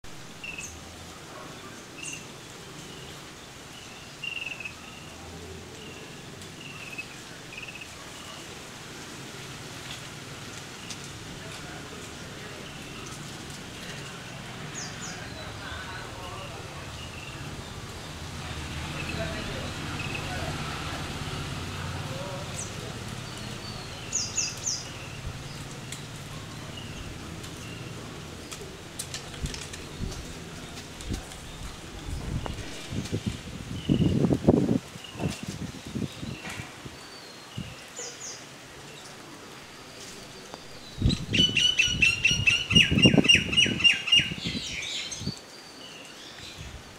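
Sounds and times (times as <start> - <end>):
steady outdoor hiss: 0.0 - 46.9
birds chirping: 0.2 - 8.8, 9.6 - 46.8.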